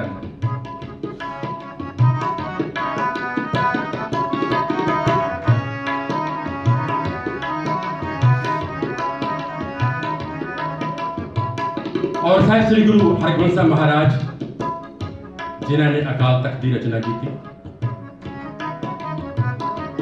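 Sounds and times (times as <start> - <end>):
sustained harmonium chords: 0.0 - 20.0
tabla playing a steady rhythm: 0.0 - 20.0.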